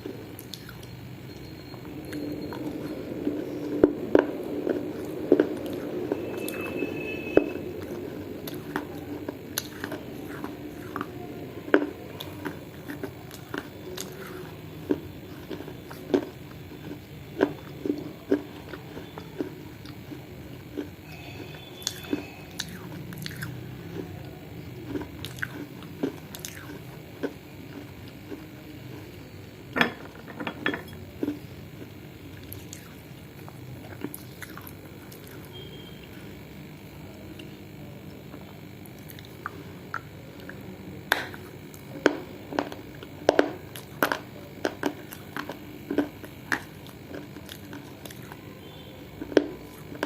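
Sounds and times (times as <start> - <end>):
person chewing crunchy clay: 0.0 - 50.0.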